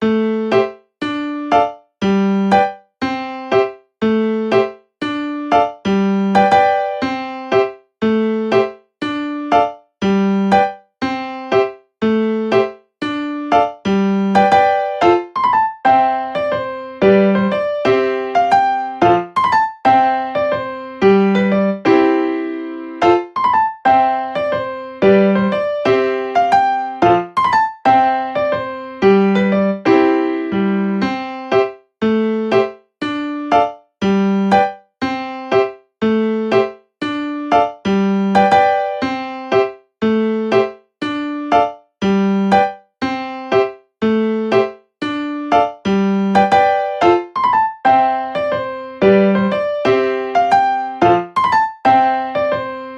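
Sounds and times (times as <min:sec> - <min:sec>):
piano keyboard melody: 0:00.0 - 0:52.9.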